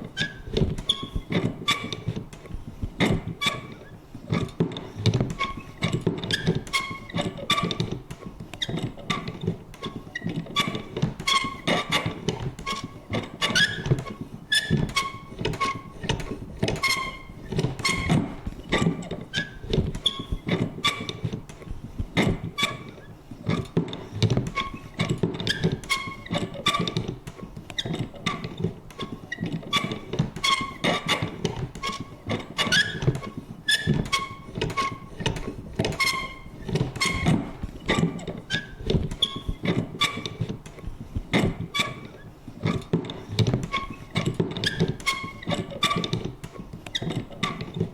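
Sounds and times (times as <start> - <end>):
paper punch creaking and clunking: 0.0 - 47.9.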